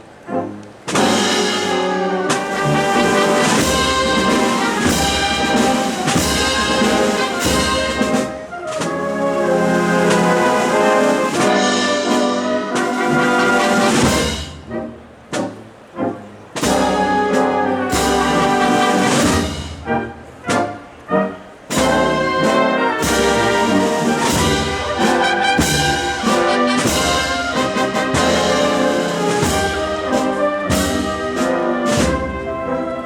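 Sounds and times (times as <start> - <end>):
brass band playing a march: 0.0 - 33.0.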